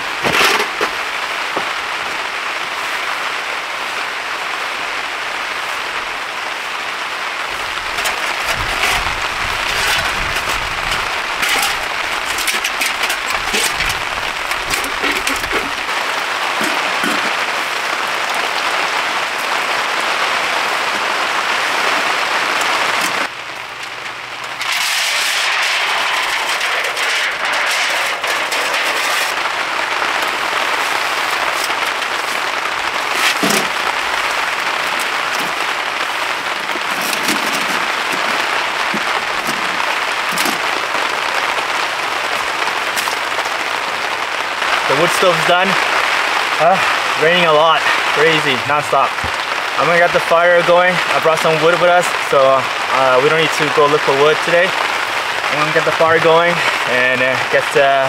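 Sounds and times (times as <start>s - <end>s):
heavy rain on tent: 0.0s - 58.0s.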